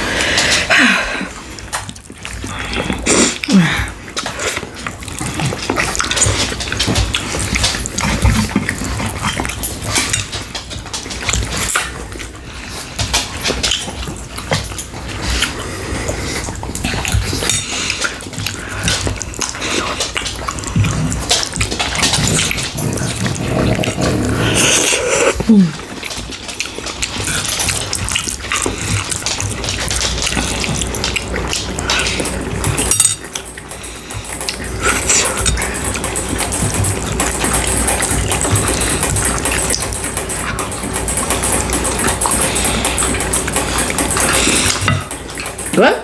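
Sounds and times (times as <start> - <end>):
chewing and wet mouth smacking: 0.0 - 46.0.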